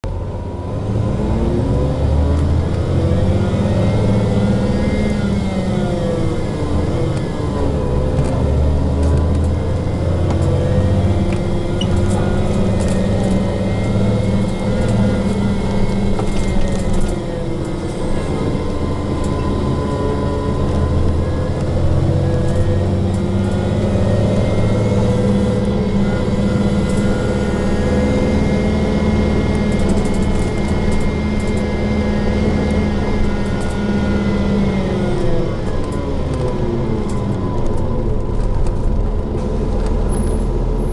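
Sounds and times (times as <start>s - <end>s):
bus engine rumbling: 0.0s - 40.9s
drivetrain whining: 0.0s - 40.9s.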